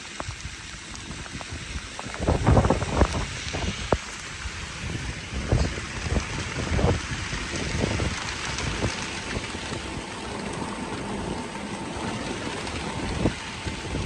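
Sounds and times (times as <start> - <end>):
rain falling: 0.0 - 14.0
wind buffeting microphone: 0.0 - 14.0.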